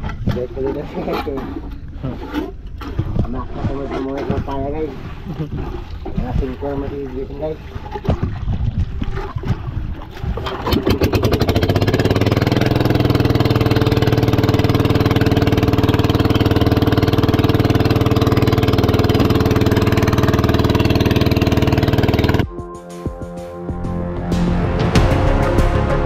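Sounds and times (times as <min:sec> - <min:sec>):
boat engine running: 0:00.0 - 0:22.5.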